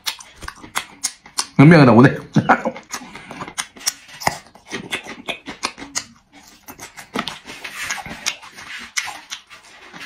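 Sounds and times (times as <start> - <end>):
wet chewing and mouth smacking: 0.0 - 10.0.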